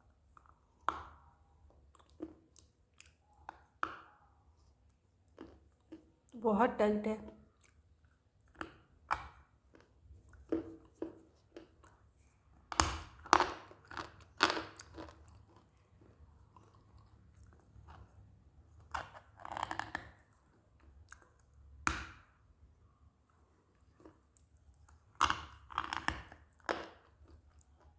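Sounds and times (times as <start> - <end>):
crunching and chewing: 0.3 - 6.3, 7.4 - 22.5, 23.1 - 27.9.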